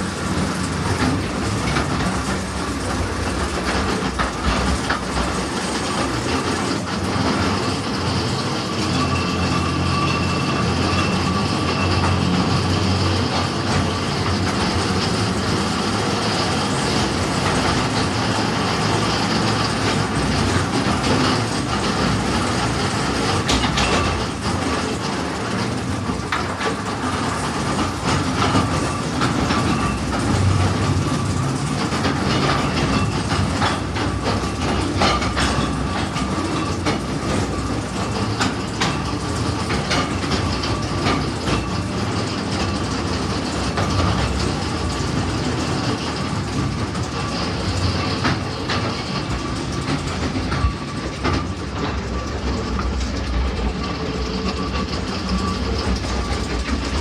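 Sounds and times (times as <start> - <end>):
rail cars rumbling on track: 0.0 - 57.0
wheel clacks: 0.0 - 57.0.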